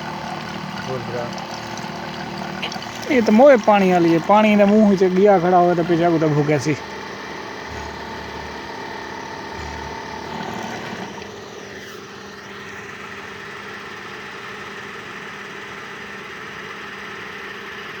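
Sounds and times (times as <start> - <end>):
water pump motor humming: 0.0 - 18.0.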